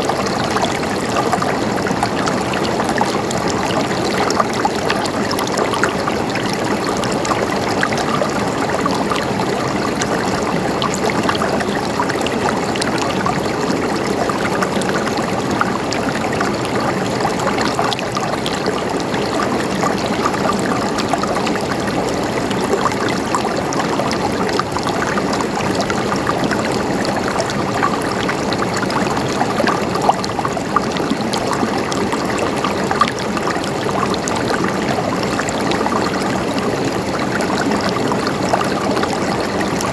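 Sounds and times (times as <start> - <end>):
stream water gurgling: 0.0 - 39.9
water splashes and drips: 0.0 - 39.9.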